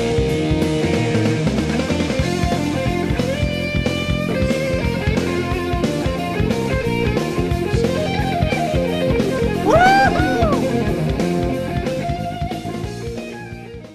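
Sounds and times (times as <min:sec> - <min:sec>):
rock music: 0:00.0 - 0:13.9.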